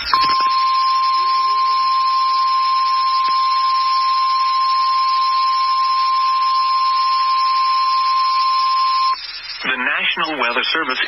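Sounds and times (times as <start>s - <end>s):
steady high alarm tone: 0.0s - 10.7s.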